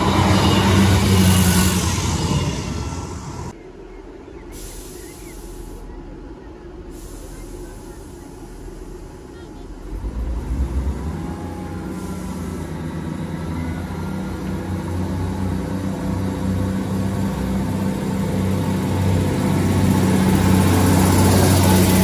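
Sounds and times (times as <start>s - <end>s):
diesel train engine accelerating: 0.0s - 22.0s.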